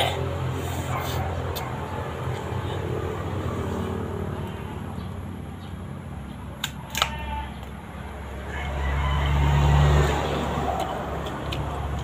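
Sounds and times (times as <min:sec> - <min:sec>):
passing vehicle engine hum: 0:00.0 - 0:06.6, 0:07.4 - 0:12.0.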